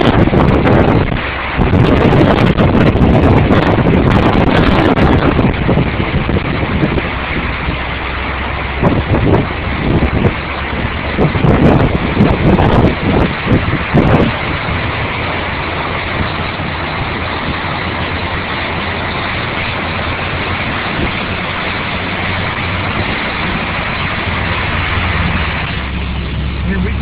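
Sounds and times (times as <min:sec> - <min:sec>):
car engine humming: 0:00.0 - 0:27.0
low bumps: 0:00.0 - 0:27.0
road noise hiss: 0:00.0 - 0:27.0.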